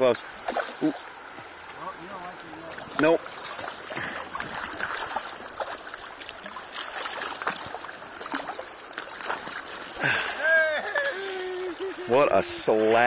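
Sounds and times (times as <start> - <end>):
river water flowing over rocks: 0.0 - 13.0
small water splashes: 0.0 - 13.0.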